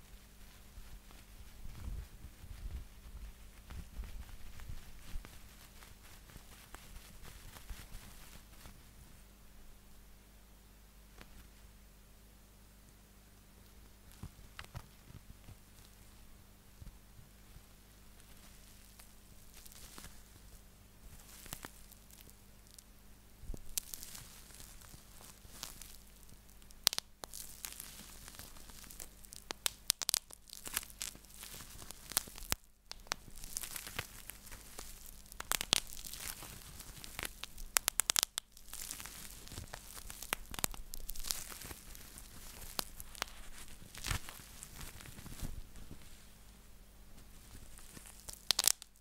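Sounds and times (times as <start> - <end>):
bubble wrap crinkling: 0.0 - 9.0, 17.4 - 49.0
bubble wrap pops: 0.9 - 8.9, 14.0 - 16.0, 18.2 - 22.8, 23.4 - 46.2, 47.2 - 49.0.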